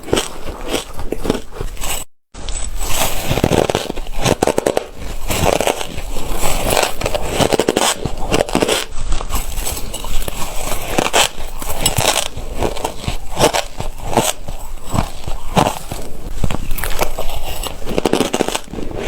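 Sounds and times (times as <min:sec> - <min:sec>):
ice crunching between teeth: 0:00.0 - 0:19.0.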